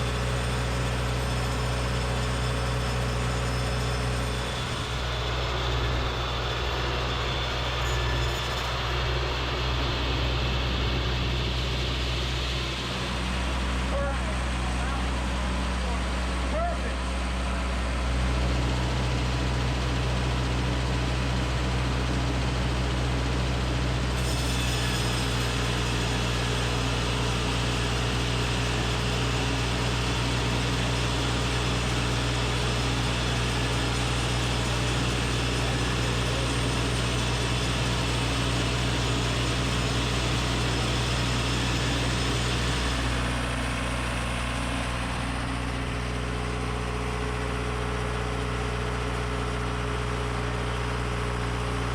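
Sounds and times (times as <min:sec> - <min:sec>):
heavy machine deep hum: 0:00.0 - 0:24.2, 0:26.7 - 0:51.9.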